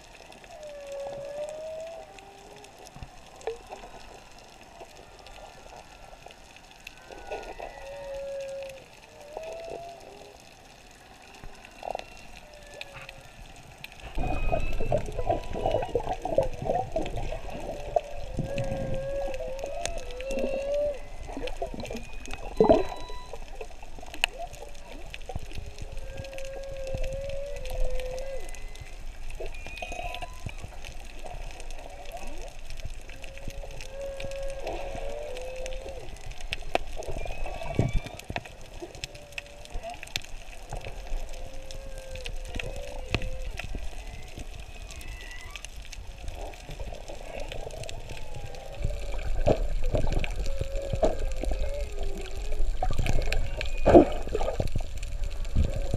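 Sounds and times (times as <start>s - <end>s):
rushing water noise: 0.0s - 55.9s
whale calls underwater: 0.0s - 55.9s.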